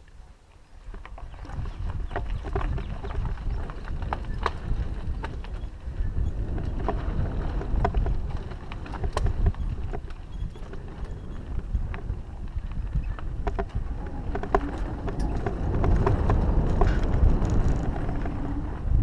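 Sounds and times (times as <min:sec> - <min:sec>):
wind rumble on microphone: 0:00.0 - 0:19.0
bike jolting over bumps: 0:00.9 - 0:19.0.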